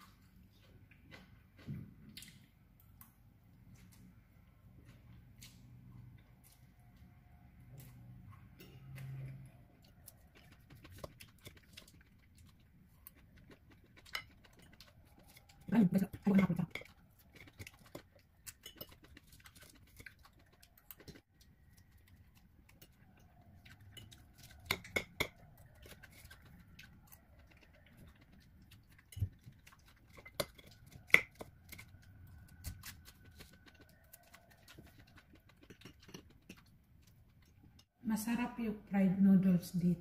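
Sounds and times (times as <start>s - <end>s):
chewing food: 0.0s - 38.0s.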